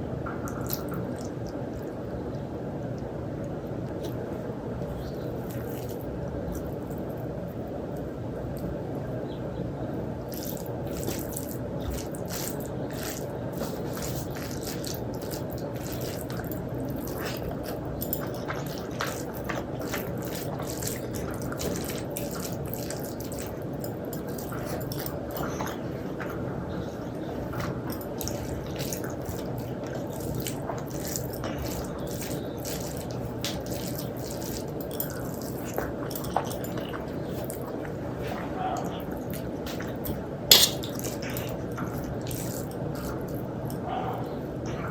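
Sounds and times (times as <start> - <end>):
wet eating sounds: 0.0 - 9.1, 10.1 - 44.9
low background noise: 0.0 - 44.9.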